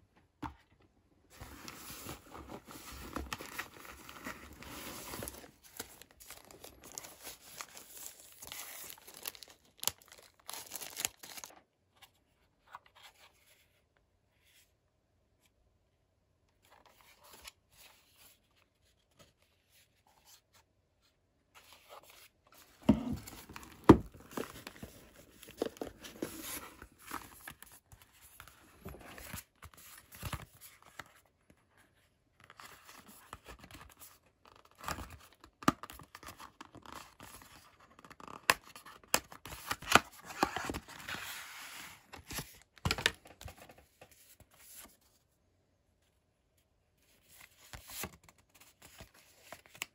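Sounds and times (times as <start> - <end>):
rustling paper and card: 0.6 - 14.8, 16.6 - 45.4, 46.0 - 49.9.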